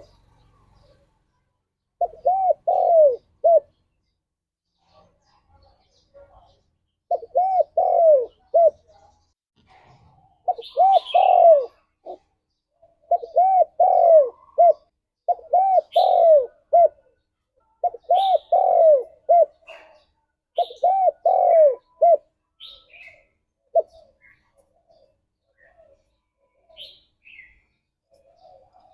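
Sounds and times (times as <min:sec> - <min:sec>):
dove cooing: 0:00.0 - 0:01.1, 0:02.0 - 0:03.8, 0:07.1 - 0:08.9, 0:10.3 - 0:28.9
small birds chirping: 0:00.0 - 0:28.9.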